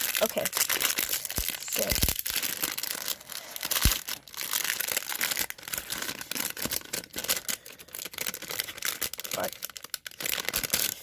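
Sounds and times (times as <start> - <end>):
plastic packaging crinkling and tearing: 0.0 - 11.0.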